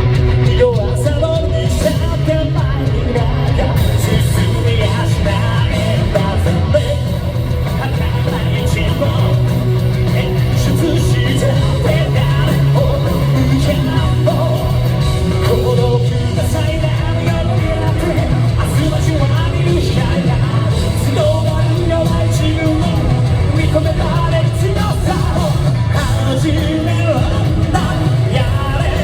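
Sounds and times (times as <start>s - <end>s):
man singing lead vocal: 0.0s - 29.0s
rock band playing live: 0.0s - 29.0s.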